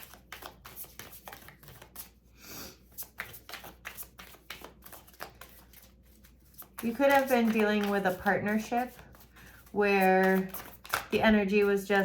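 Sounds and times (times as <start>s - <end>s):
cards being shuffled: 0.0s - 2.2s, 2.8s - 12.0s
cards sliding rustle: 0.0s - 2.2s, 2.8s - 11.8s.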